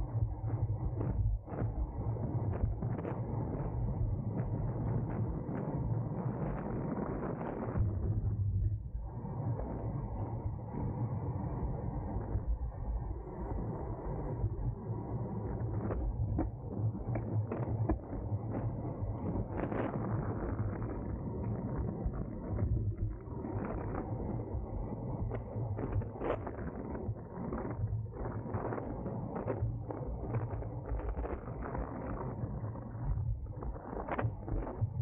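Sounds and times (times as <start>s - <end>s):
wind and road noise: 0.4s - 8.3s, 13.2s - 35.0s.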